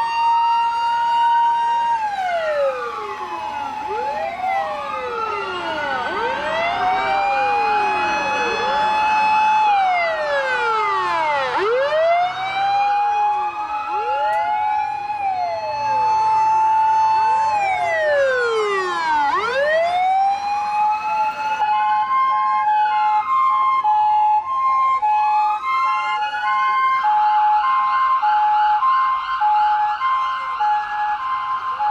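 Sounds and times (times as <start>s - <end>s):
emergency siren wailing: 0.0s - 31.9s
two-tone hi-lo siren: 0.0s - 31.9s.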